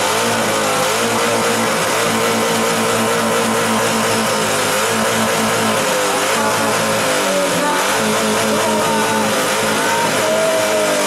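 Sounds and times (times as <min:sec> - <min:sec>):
car with loud exhaust: 0:00.0 - 0:11.0
live band with electric guitar: 0:00.0 - 0:11.0.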